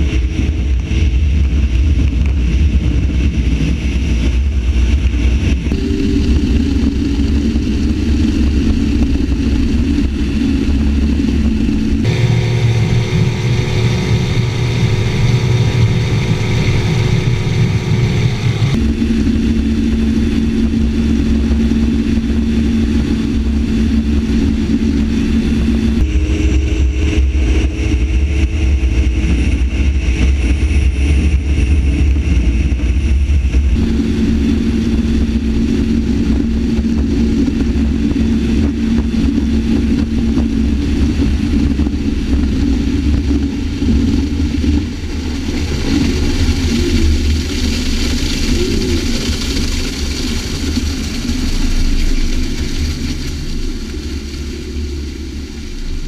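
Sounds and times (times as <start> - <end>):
outboard motor running: 0.0 - 56.0
water rushing under hull: 0.0 - 56.0.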